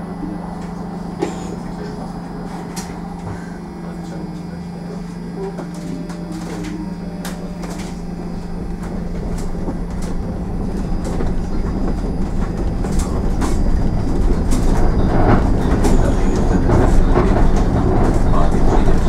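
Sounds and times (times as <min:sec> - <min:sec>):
bus tyres and running gear rumble: 0:00.0 - 0:19.0.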